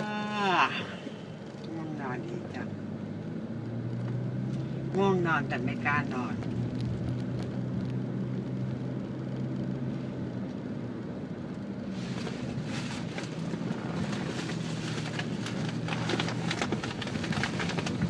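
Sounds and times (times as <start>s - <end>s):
low engine hum: 0.0s - 18.0s
tyre and road noise: 0.0s - 18.0s.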